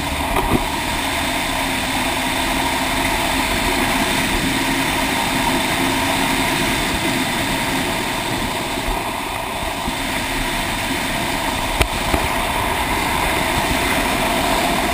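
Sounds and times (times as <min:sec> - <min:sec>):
motorcycle engine running: 0:00.0 - 0:14.9
wind noise on microphone: 0:00.0 - 0:14.9.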